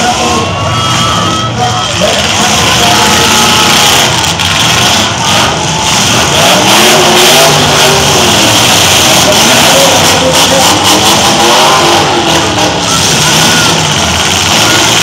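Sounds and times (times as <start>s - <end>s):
engine revving: 0.0s - 15.0s
truck engines running loud: 0.0s - 15.0s.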